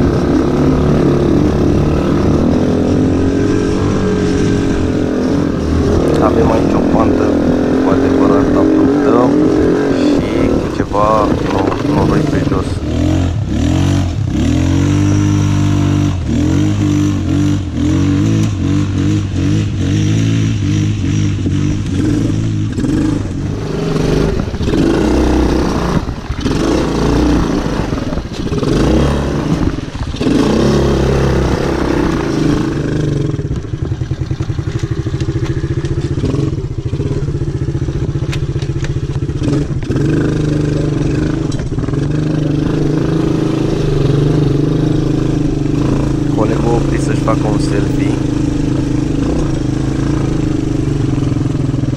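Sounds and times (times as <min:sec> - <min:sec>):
quad bike engine under load: 0:00.0 - 0:51.9.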